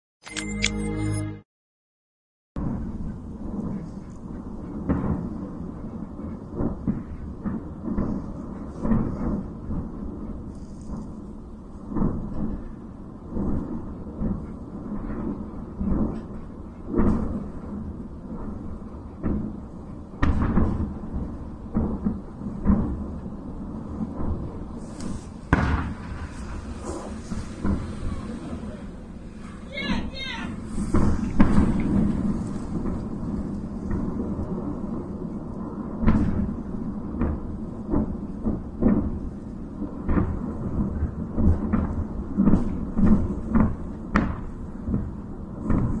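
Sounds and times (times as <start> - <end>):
low rumble: 2.6 - 44.0
distant explosions booming: 2.6 - 46.0
sharp explosion crack: 2.6 - 46.0.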